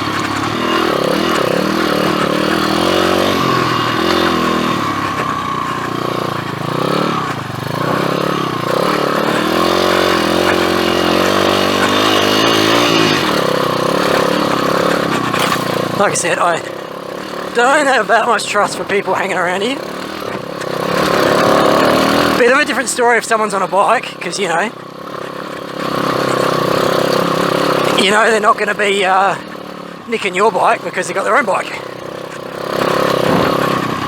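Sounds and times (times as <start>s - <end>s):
pit bike engine revving: 0.0s - 34.0s.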